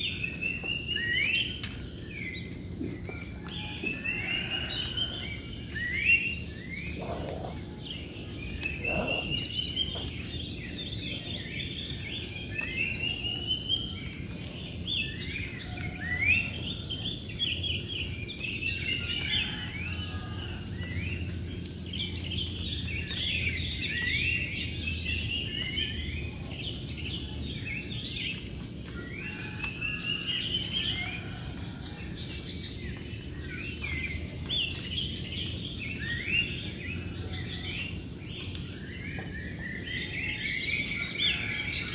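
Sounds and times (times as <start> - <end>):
birds chirping and singing: 0.0 - 41.9
insects droning: 0.0 - 41.9.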